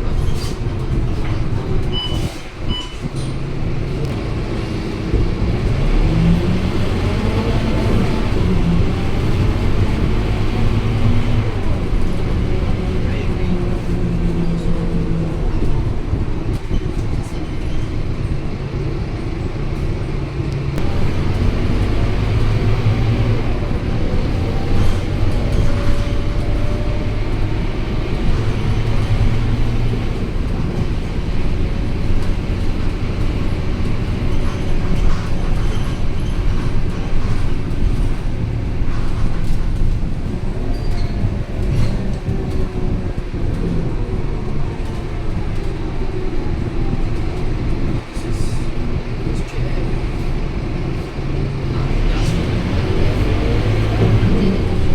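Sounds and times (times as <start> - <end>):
bus diesel engine rumble: 0.0 - 54.9.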